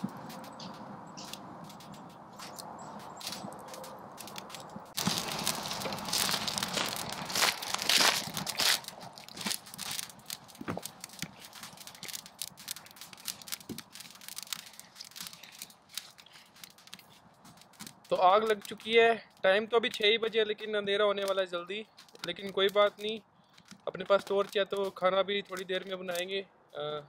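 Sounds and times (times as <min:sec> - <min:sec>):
campfire crackling and snapping: 0:00.0 - 0:26.3.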